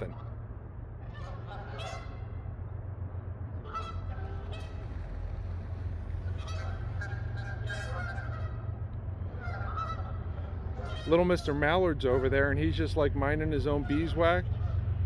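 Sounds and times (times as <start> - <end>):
steady low rumble: 0.0 - 15.0
geese honking: 1.0 - 2.4, 3.5 - 14.9.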